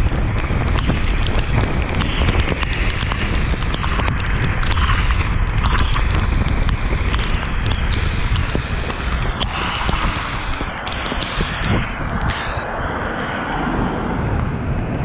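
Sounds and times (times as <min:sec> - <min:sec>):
hiss of wet tyres and rain: 0:00.0 - 0:12.6
sharp little ticks: 0:00.0 - 0:12.7
heavy rumble: 0:00.0 - 0:15.0
wind buffeting microphone: 0:00.0 - 0:15.0.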